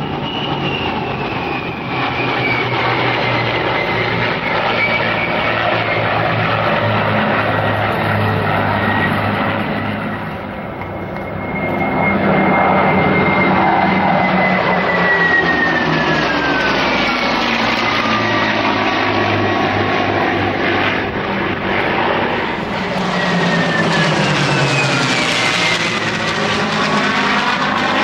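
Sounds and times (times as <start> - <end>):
jet engine whine: 0.0 - 28.0
propeller engines droning: 0.0 - 28.0.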